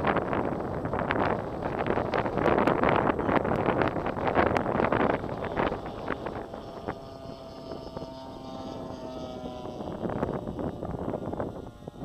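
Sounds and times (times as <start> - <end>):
model plane engine droning overhead: 0.0 - 12.0
wind buffeting microphone: 0.0 - 12.0.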